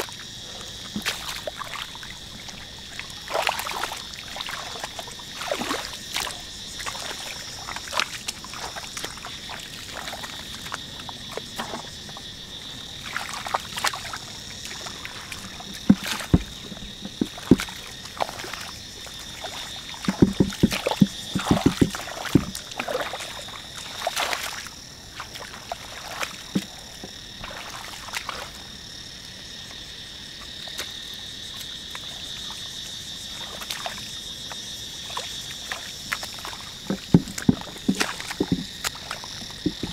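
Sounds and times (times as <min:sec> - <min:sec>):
high insect chorus: 0:00.0 - 0:39.9
water sloshing and splashing: 0:00.0 - 0:39.9.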